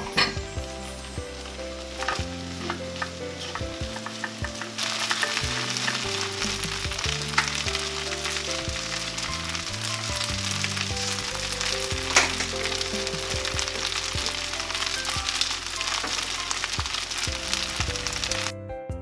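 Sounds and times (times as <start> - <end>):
rice sizzling in a frying pan: 0.9 - 18.5.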